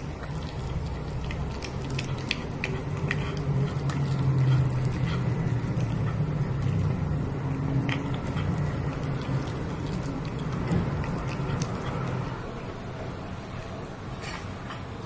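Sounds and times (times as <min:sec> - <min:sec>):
cat chewing: 0:00.0 - 0:14.8
low steady hum: 0:00.0 - 0:15.0.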